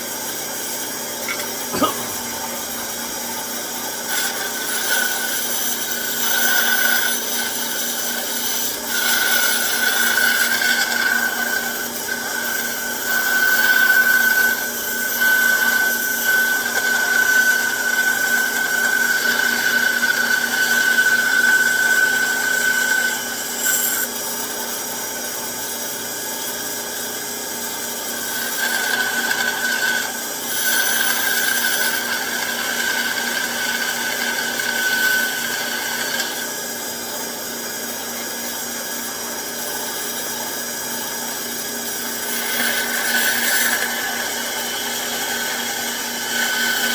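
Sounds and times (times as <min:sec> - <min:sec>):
band saw cutting wood: 0:00.0 - 0:26.5, 0:27.6 - 0:46.9.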